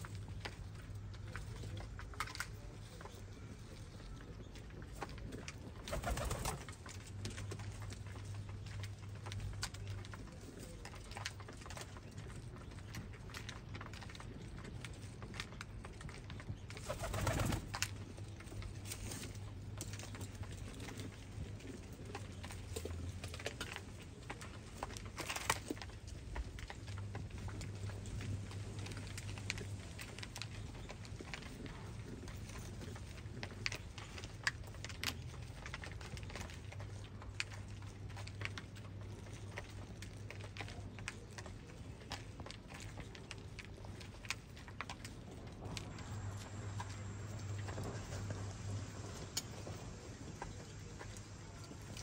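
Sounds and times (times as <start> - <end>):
beaks pecking grain in metal trough: 0.0 - 52.0
low steady hum: 0.0 - 52.0.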